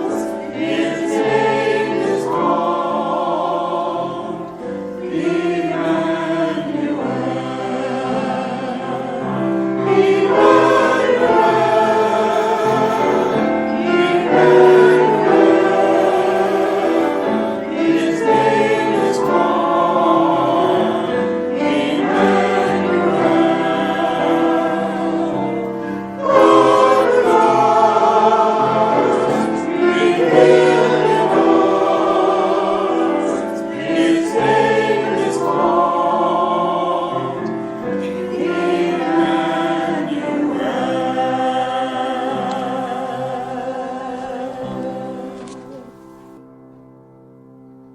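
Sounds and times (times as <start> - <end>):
choir singing a hymn: 0.0 - 46.5.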